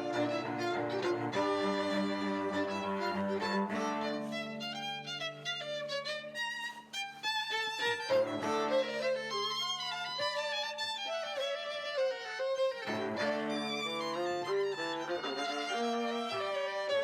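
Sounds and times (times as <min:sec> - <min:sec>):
violin melody: 0:00.0 - 0:17.0.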